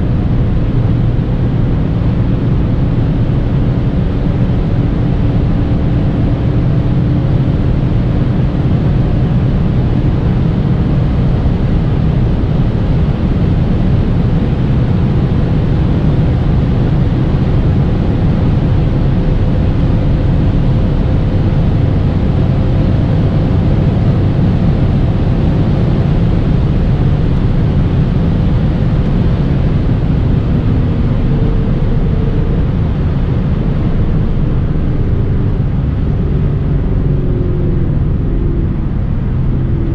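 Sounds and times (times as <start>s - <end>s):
car engine droning: 0.0s - 39.9s
road and wind noise: 0.0s - 39.9s.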